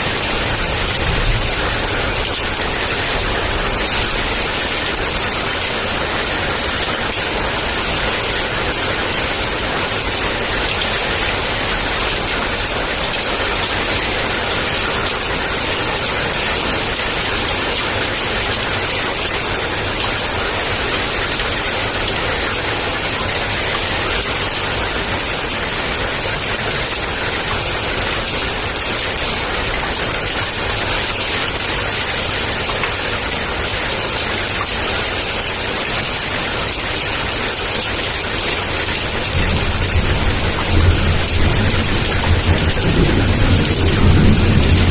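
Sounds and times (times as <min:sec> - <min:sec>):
heavy rain downpour: 0:00.0 - 0:44.9.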